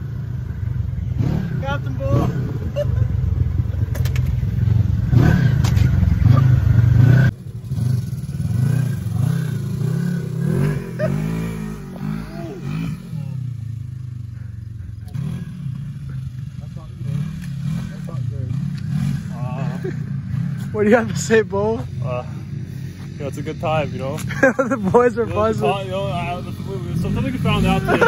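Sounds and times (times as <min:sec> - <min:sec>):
engine revving: 0:00.0 - 0:28.0
off-road vehicle engine rumble: 0:00.0 - 0:28.0.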